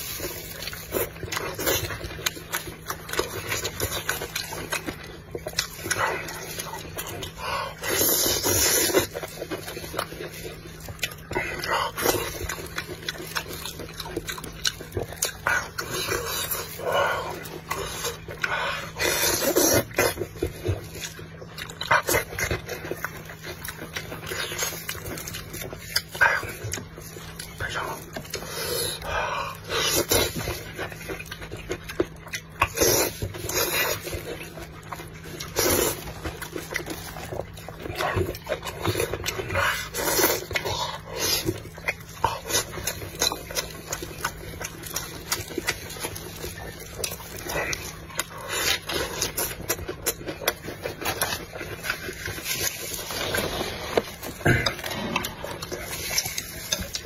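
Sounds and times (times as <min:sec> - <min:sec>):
food crunching: 0:00.0 - 0:57.0
man chewing and lip-smacking: 0:00.0 - 0:57.0.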